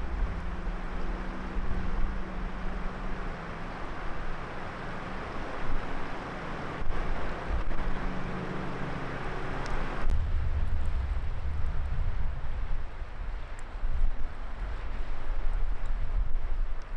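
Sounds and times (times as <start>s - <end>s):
wind buffeting microphone: 0.0s - 8.2s, 9.2s - 16.9s.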